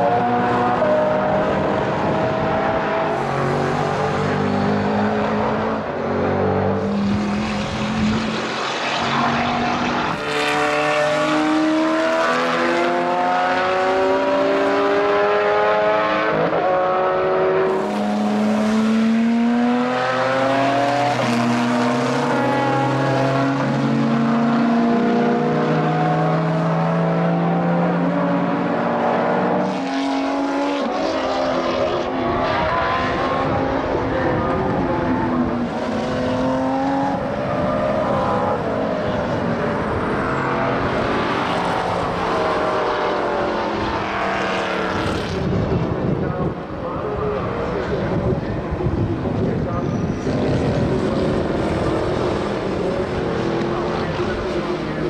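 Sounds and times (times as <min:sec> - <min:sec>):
race car engines accelerating: 0:00.0 - 0:55.0.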